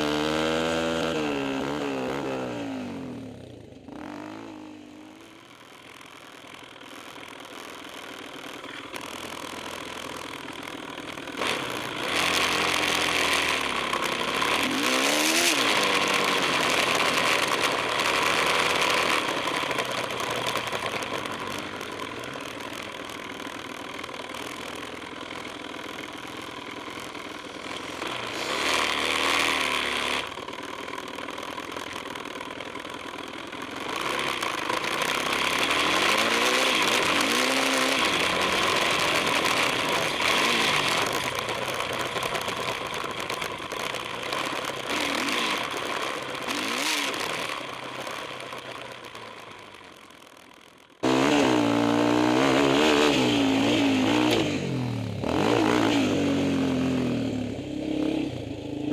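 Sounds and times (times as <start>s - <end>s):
quad bike engine revving: 0.0s - 58.9s.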